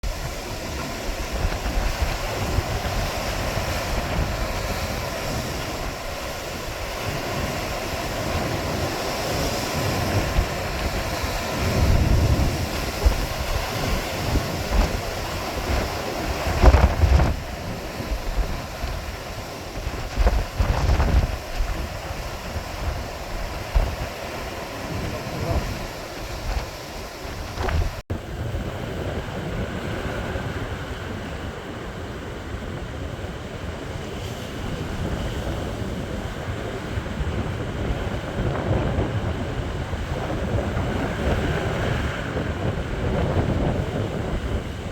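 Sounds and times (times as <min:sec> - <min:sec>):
sea waves: 0:00.0 - 0:44.9
wind buffeting microphone: 0:00.0 - 0:44.9.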